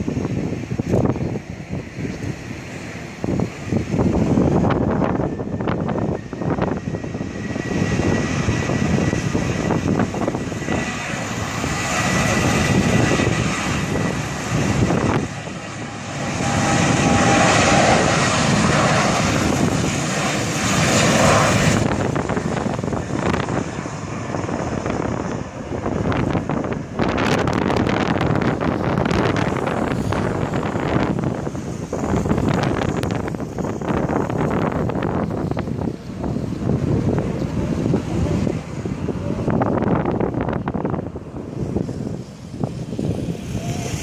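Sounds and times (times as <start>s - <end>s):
jet engines roaring: 0.0s - 44.0s
steady engine whine: 0.0s - 44.0s.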